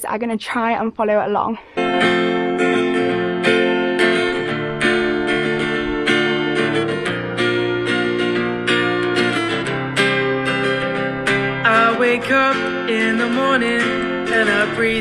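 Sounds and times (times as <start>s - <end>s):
strummed acoustic guitar chords: 1.7s - 15.0s.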